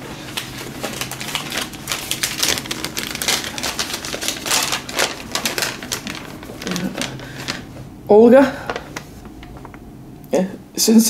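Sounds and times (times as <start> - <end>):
paper crinkling and rustling: 0.0 - 7.9, 8.5 - 9.9.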